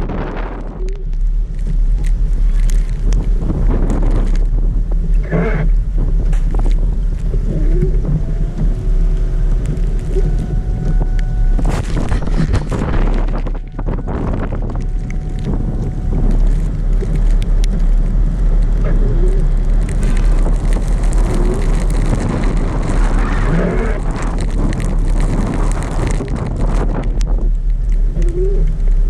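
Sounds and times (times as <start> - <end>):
car driving low rumble: 0.0 - 29.0
wind buffeting microphone: 0.0 - 29.0.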